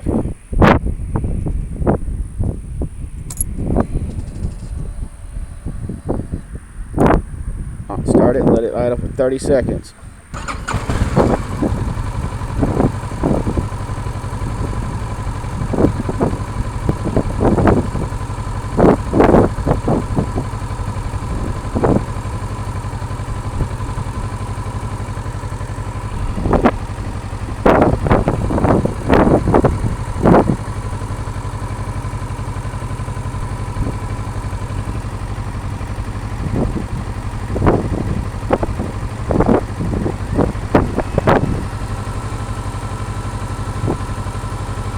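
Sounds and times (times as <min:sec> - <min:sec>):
wind buffeting microphone: 0:00.0 - 0:44.9
motorcycle engine idling: 0:01.2 - 0:44.9.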